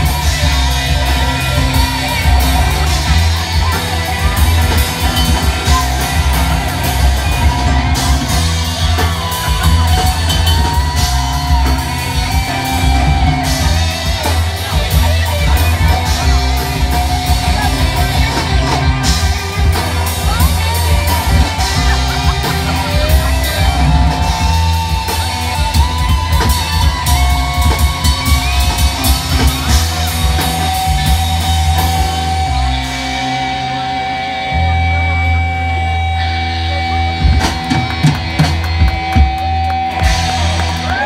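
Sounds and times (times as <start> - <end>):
drum kit beat: 0.0 - 41.0
electric guitars: 0.0 - 41.0.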